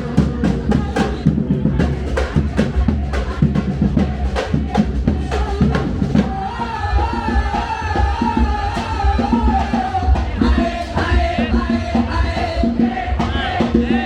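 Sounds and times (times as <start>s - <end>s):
street percussion drumming: 0.0s - 14.0s.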